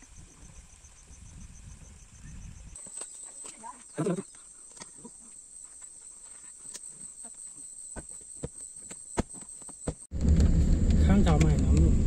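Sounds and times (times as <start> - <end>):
insects chirring: 0.0 - 10.1.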